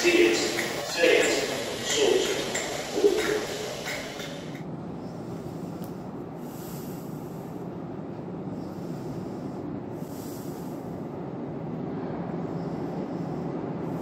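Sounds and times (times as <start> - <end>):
underground station rumble: 0.0 - 14.0.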